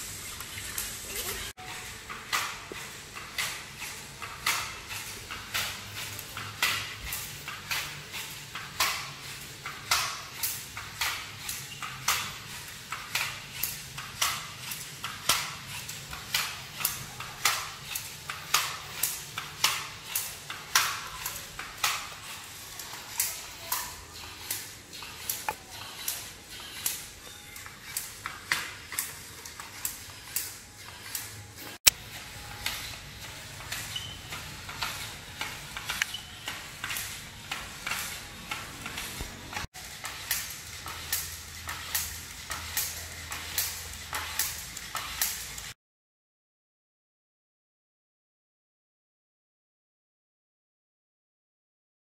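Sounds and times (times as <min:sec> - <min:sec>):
robot feet tapping on tile floor: 0:00.2 - 0:45.8.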